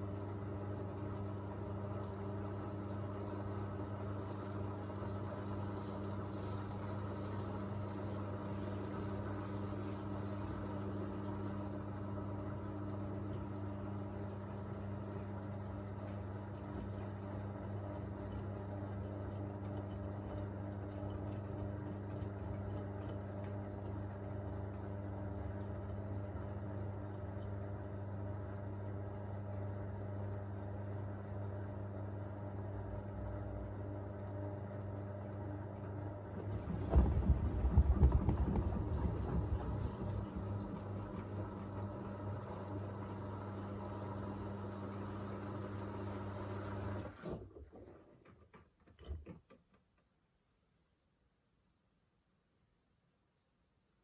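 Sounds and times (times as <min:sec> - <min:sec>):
washing machine humming: 0:00.0 - 0:49.5.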